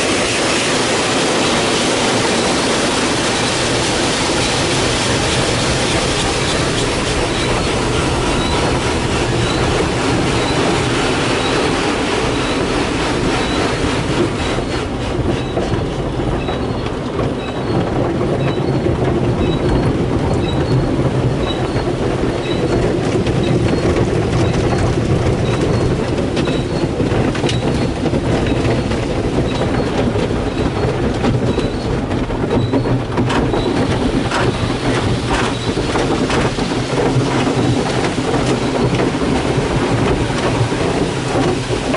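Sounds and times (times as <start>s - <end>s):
mechanical rumble and rattle: 0.0s - 41.9s
water jets rushing: 0.0s - 41.9s.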